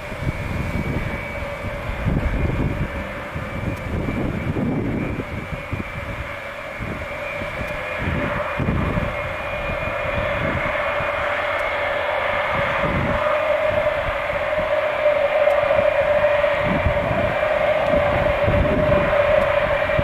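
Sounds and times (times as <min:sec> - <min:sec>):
jet engines screaming: 0:00.0 - 0:20.0.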